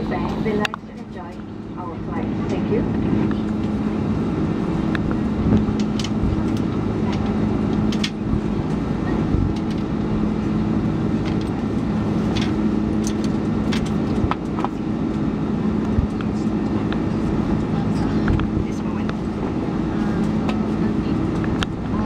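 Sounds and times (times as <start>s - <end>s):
airliner engine drone: 0.0s - 22.0s
low hum: 0.0s - 22.0s.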